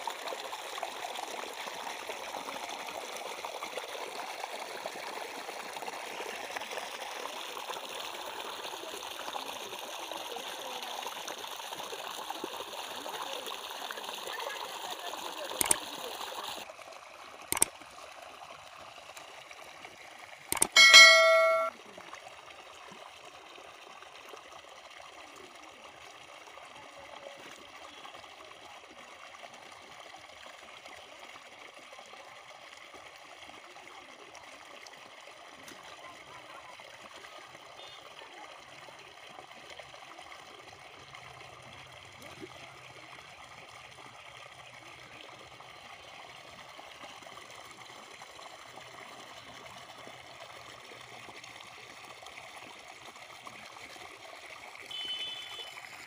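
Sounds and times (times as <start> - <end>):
water trickling through a channel: 0.0 - 56.0.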